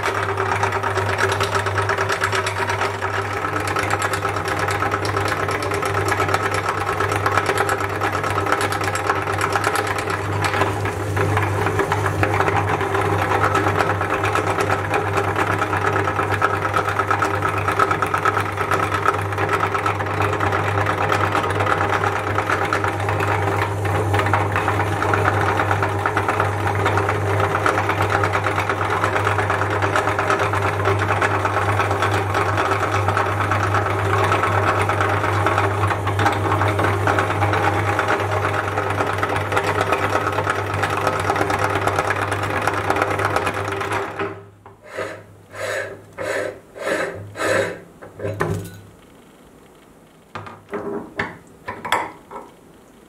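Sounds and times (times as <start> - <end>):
meat grinder motor humming: 0.0 - 48.1.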